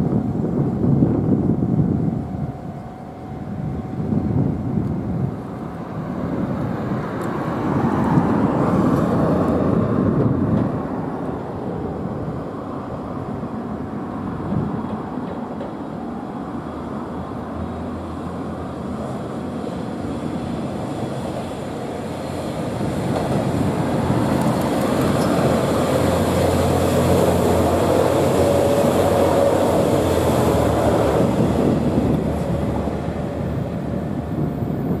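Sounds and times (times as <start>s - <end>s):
diesel railcar engines: 0.0s - 35.0s
train wheels on rails: 4.8s - 35.0s.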